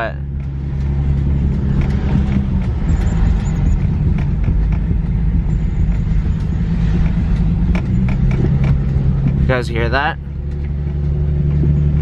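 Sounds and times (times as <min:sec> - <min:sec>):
car exhaust rumbling: 0:00.0 - 0:12.0.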